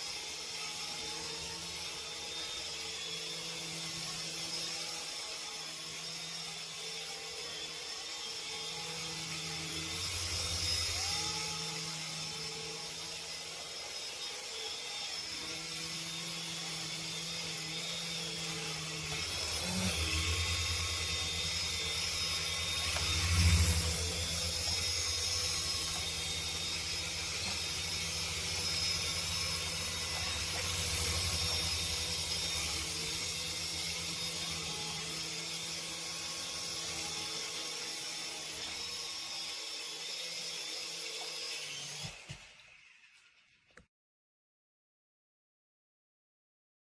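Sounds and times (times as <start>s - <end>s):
toy helicopter rotors whirring: 0.0s - 43.9s.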